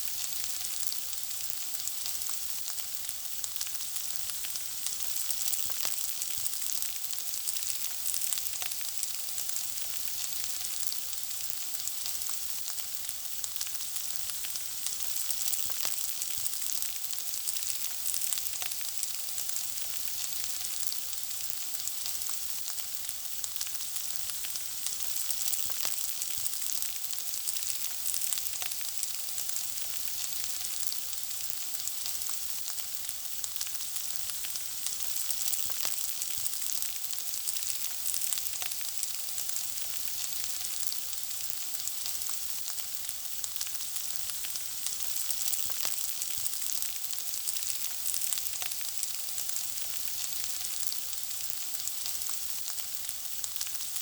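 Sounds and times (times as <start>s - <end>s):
food sizzling in hot oil: 0.0s - 54.0s.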